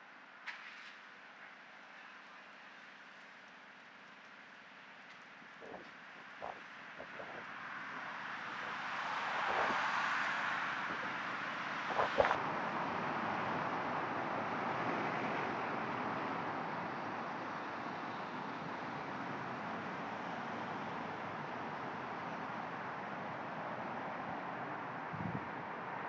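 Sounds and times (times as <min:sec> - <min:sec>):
road traffic noise: 0:00.2 - 0:26.0.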